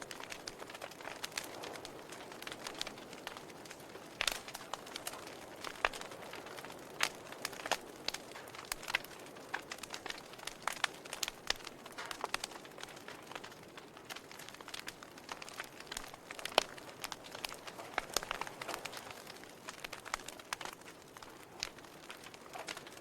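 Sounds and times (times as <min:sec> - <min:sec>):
soft fire hiss: 0:00.0 - 0:23.0
wood fire crackling and popping: 0:00.0 - 0:23.0.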